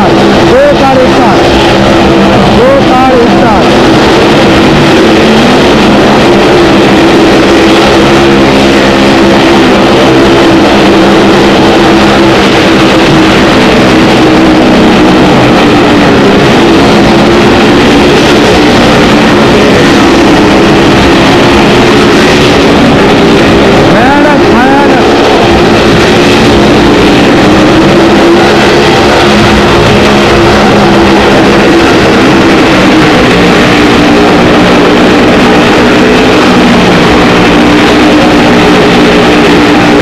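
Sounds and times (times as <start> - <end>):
motorcycle engines running: 0.0 - 40.0.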